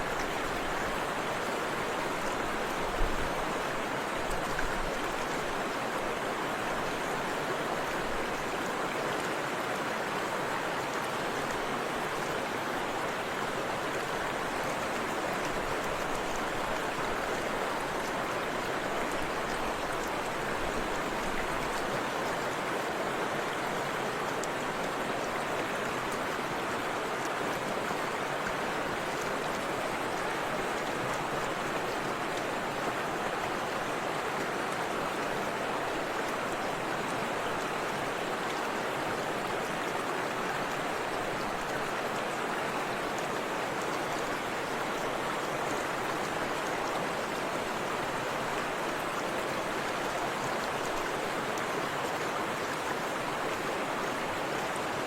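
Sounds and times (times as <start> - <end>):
river rushing over waterfall: 0.0 - 55.0.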